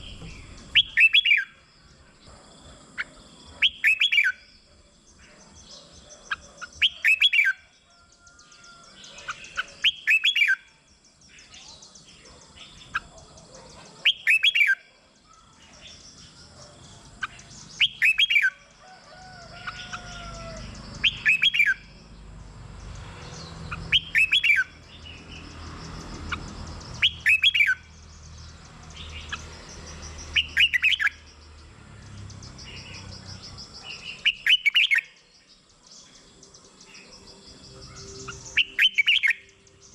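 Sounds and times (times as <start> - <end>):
bird singing warbled phrases: 0.0 - 39.9
soft bird chirps: 0.0 - 39.9.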